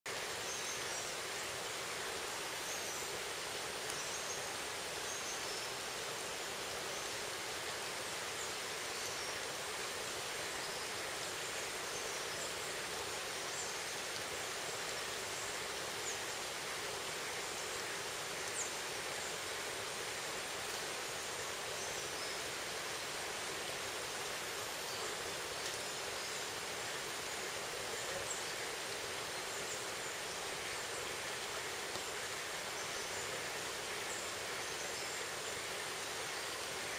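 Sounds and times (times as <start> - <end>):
rocky stream rushing: 0.1 - 36.9.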